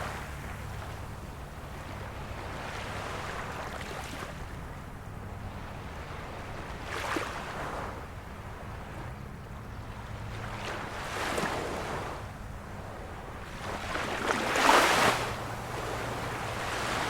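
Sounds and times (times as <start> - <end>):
small waves lapping shore: 0.0 - 17.0.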